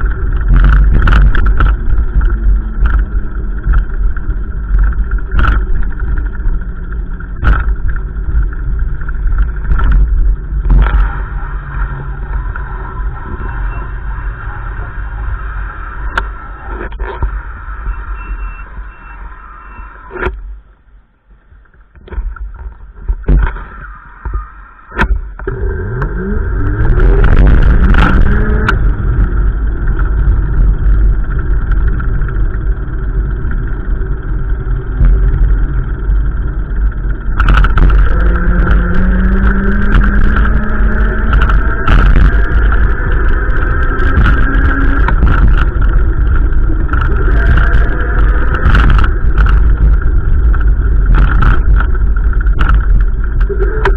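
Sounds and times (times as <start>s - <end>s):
sharp clicks and knocks: 0.0s - 13.5s, 20.1s - 20.6s, 21.5s - 32.7s, 34.3s - 53.9s
vehicle engine running loudly: 0.0s - 20.8s, 21.7s - 53.9s.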